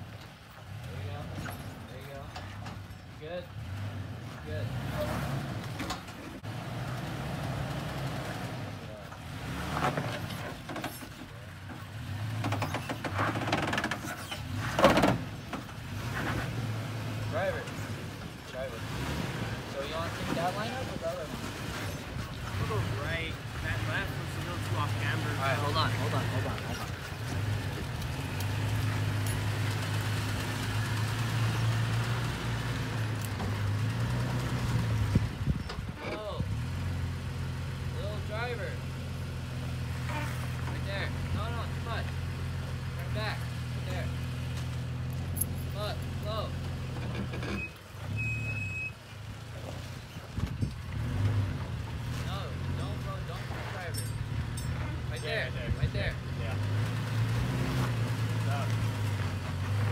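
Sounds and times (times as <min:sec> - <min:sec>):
truck engine at low revs: 0:00.0 - 0:59.9.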